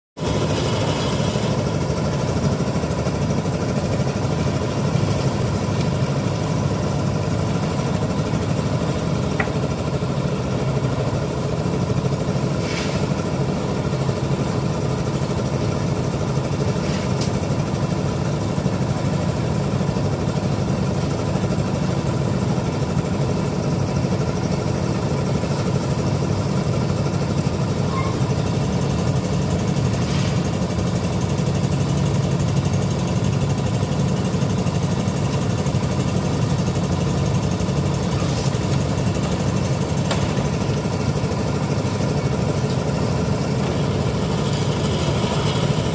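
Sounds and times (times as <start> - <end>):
concrete mixer engine: 0.2 - 45.9
hoist engine running: 0.2 - 45.9.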